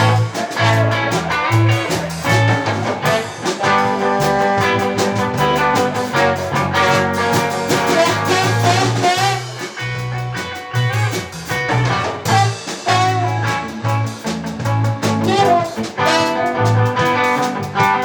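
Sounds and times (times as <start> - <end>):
bass line: 0.0 - 18.0
electric guitar: 0.0 - 18.0.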